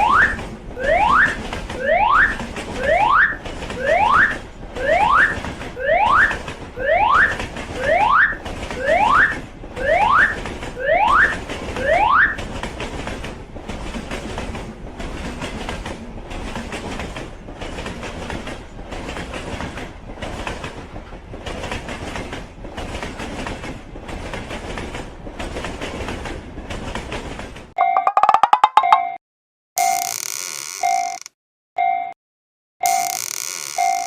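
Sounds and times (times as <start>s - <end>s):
train wheels clattering over rails: 0.0s - 27.8s.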